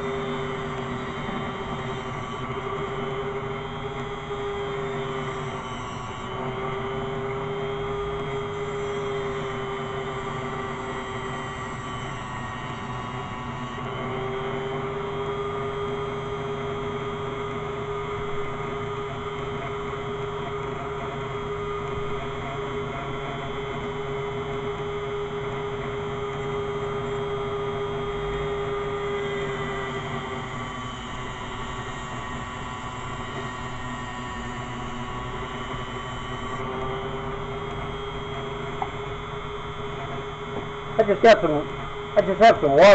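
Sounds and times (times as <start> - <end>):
electric grinder grinding knife: 0.0 - 42.9.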